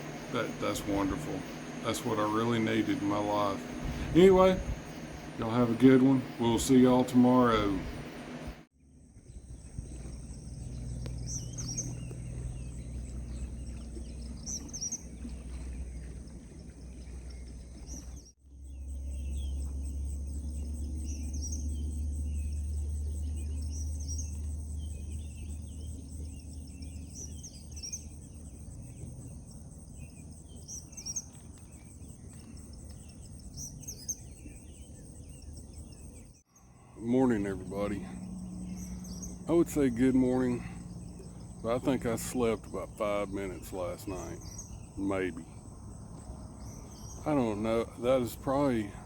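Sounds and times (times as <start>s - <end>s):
bird chirping: 0.0s - 8.5s, 9.2s - 49.0s
low rumble: 0.0s - 27.0s, 36.3s - 49.0s
insects droning: 0.0s - 49.0s.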